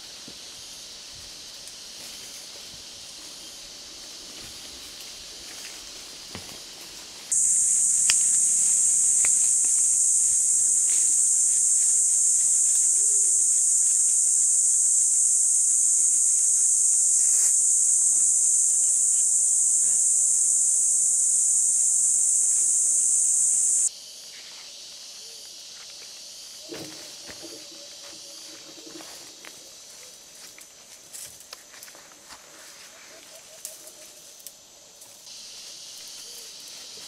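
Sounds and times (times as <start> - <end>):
insect chorus drone: 0.0 - 37.0.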